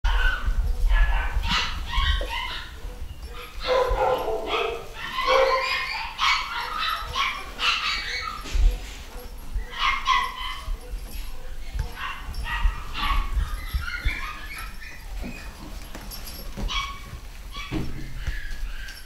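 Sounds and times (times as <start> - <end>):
puppies yipping and whimpering: 0.1 - 19.0.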